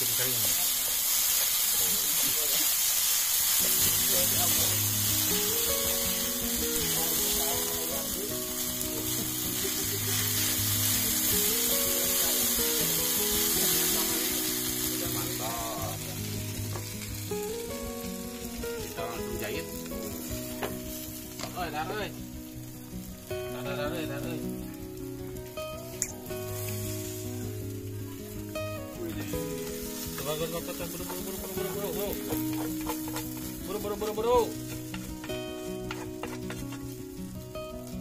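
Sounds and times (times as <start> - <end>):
noodles sizzling in a pan: 0.0 - 38.0.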